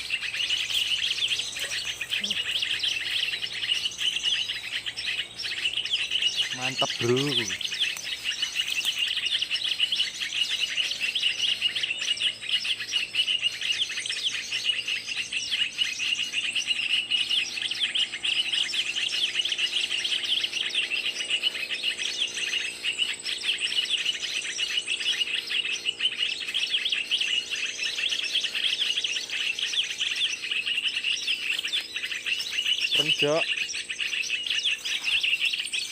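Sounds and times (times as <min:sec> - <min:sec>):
small birds twittering: 0:00.0 - 0:35.9.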